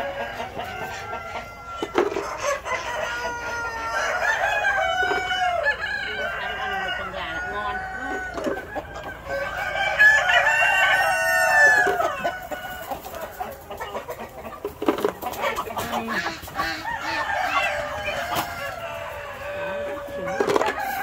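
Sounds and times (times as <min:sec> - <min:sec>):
rooster crowing: 0:00.0 - 0:13.2, 0:16.6 - 0:21.0
hens clucking: 0:00.0 - 0:21.0.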